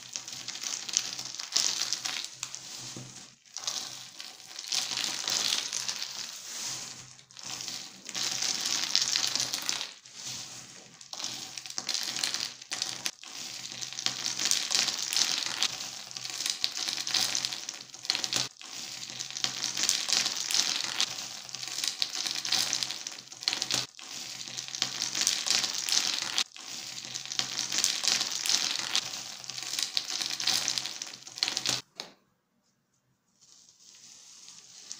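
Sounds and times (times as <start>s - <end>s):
small soap cubes pouring onto table: 0.0s - 31.8s.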